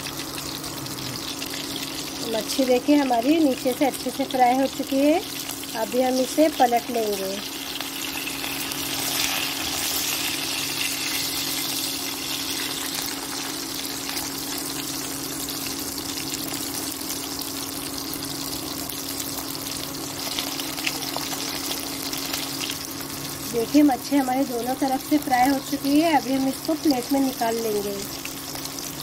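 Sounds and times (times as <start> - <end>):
fish sizzling in hot oil: 0.0 - 29.0
steady low hum: 0.0 - 29.0.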